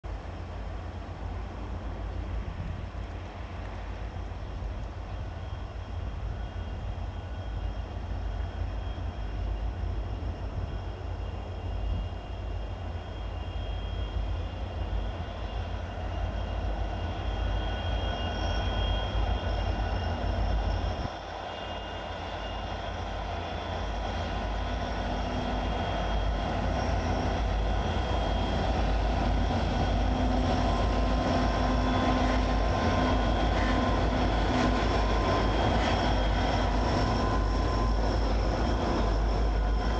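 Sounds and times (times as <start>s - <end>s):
train rumbling: 0.0s - 39.9s
faint locomotive engine tones: 0.1s - 39.9s.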